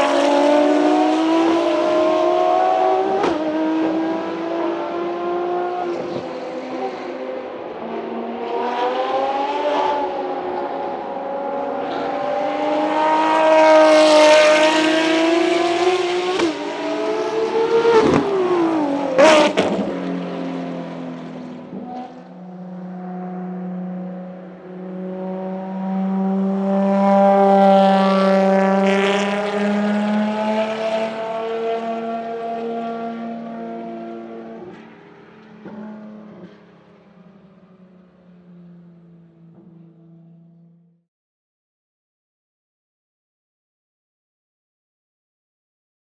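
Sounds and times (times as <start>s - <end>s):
race car engine passing at high revs: 0.0s - 40.9s.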